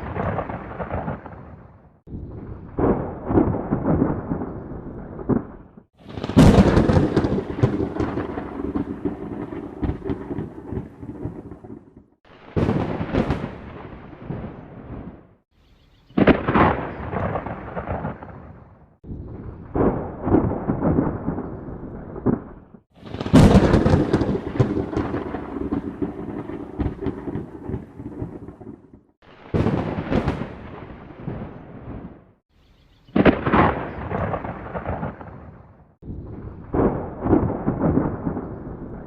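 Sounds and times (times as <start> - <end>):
thunder cracking and rumbling: 0.0 - 15.4, 16.1 - 32.4, 33.1 - 39.0.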